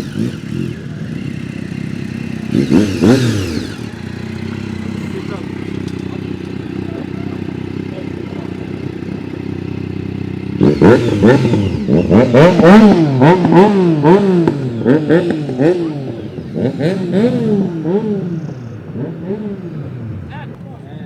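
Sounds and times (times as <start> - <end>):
engine revving hard: 0.0 - 9.2, 10.4 - 20.3
vehicle engine idling: 0.0 - 21.0.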